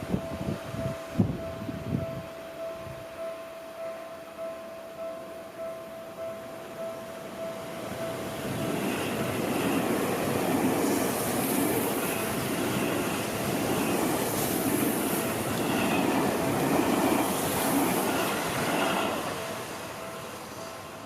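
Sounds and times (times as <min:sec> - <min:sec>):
train wheel and rail noise: 0:00.0 - 0:21.0.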